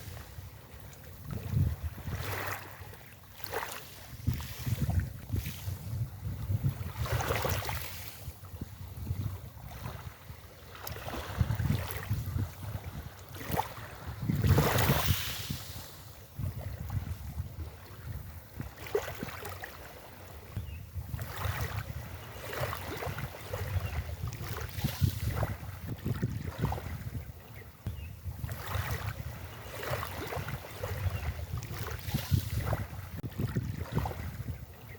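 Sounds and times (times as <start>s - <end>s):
wind gusting across microphone: 0.0s - 2.8s, 3.9s - 19.3s, 20.6s - 34.9s
waves washing on a beach: 0.0s - 34.9s.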